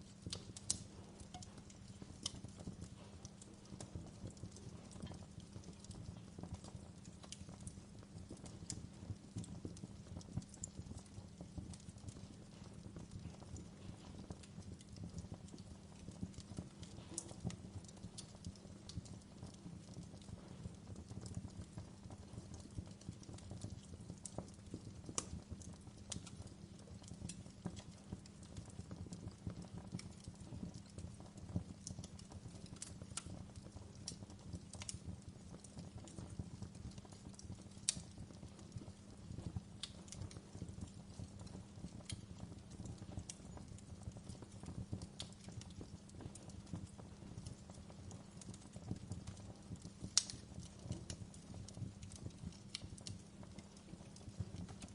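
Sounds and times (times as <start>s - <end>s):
low rumble of fire: 0.0s - 54.9s
wood fire crackling: 0.0s - 54.9s.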